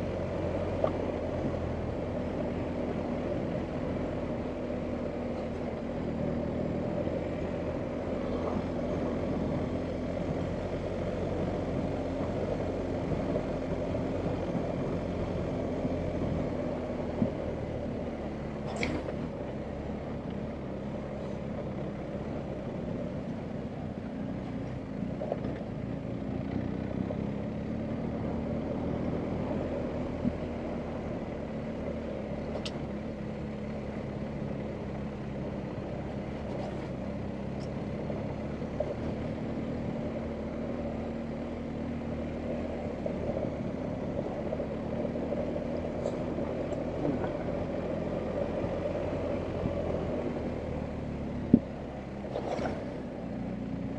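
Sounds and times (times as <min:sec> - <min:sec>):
motorcycle engine at low revs: 0:00.0 - 0:53.9.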